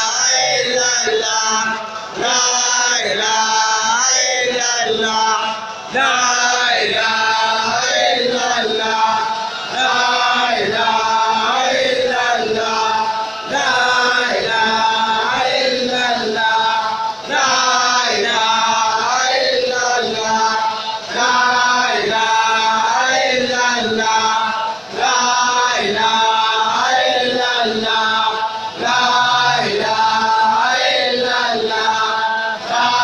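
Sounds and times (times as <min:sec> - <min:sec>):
men chanting together: 0:00.0 - 0:33.0.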